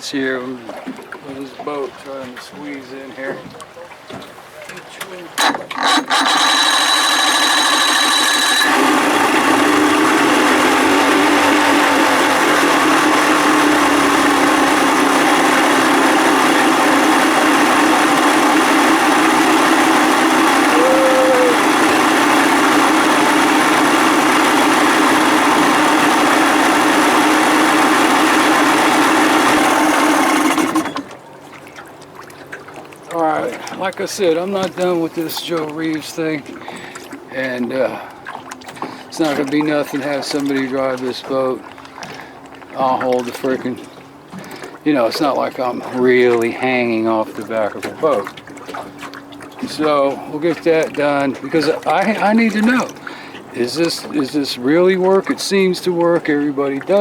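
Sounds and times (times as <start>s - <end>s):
two-stroke outboard motor running: 5.3s - 57.0s.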